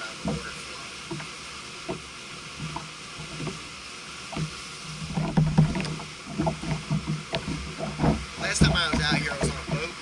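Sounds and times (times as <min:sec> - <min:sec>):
waves knocking against kayak hull: 0:00.0 - 0:10.0
wind and water hiss: 0:00.0 - 0:10.0.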